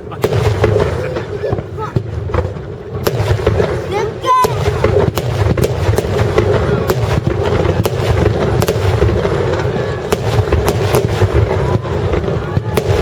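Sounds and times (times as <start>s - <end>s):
fireworks explosions rumbling: 0.0s - 13.0s
fireworks sharp cracks: 0.0s - 13.0s.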